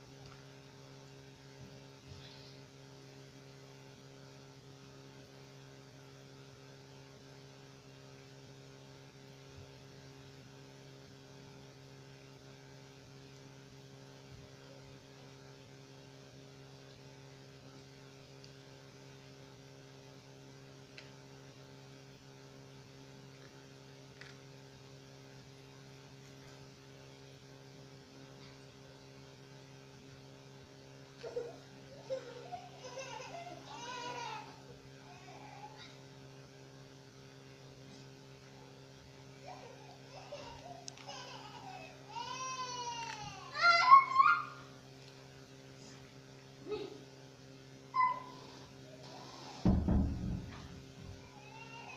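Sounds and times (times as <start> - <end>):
faint electrical hum: 0.0 - 51.9.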